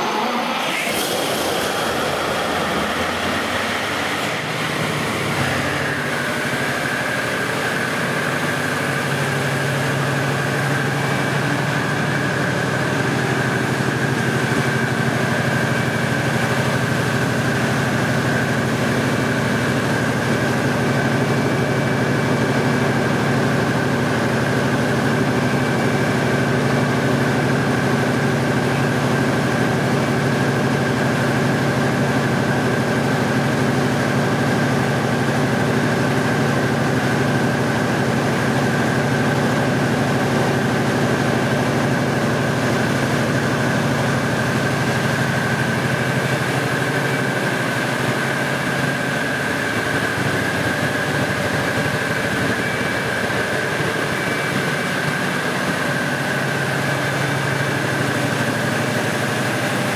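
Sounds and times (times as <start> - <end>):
high steady whine: 0.0 - 26.7, 37.8 - 59.9
diesel generator running: 0.0 - 59.9.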